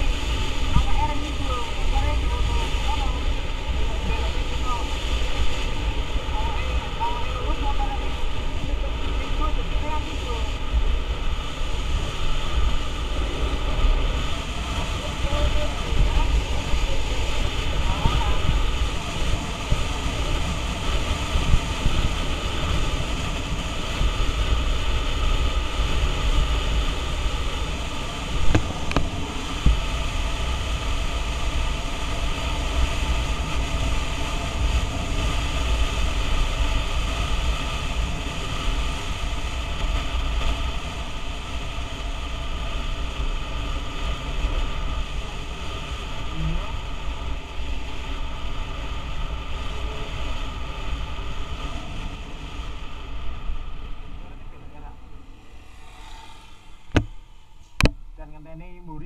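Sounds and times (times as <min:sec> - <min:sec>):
scooter engine drone: 0:00.0 - 0:58.3
wind buffeting on microphone: 0:00.0 - 0:59.0.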